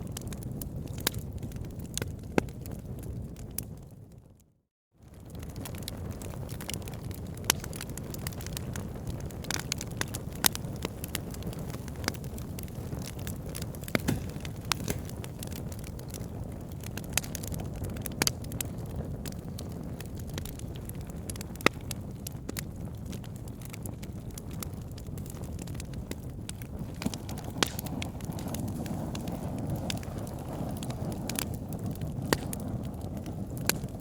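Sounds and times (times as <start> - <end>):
wood logs crackling and popping: 0.0 - 4.2, 5.0 - 34.0
low rumble of flames: 0.0 - 34.0.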